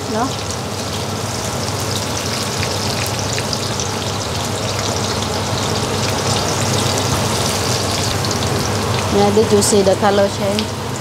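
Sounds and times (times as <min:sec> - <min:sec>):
spices sizzling in oil: 0:00.0 - 0:11.0.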